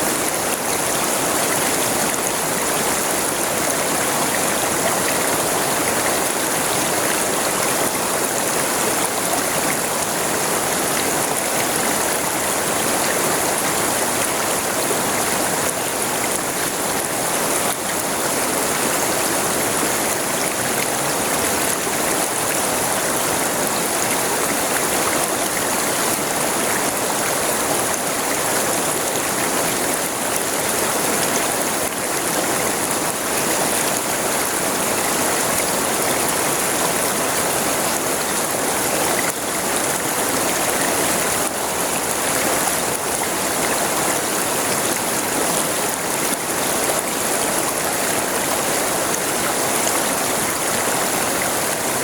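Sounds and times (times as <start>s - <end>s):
river water rushing over stones: 0.0s - 52.0s.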